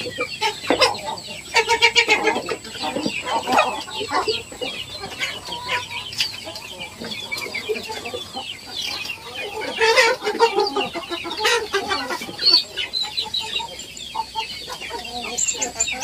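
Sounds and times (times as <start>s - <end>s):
chicks clucking and cheeping: 0.0s - 16.0s.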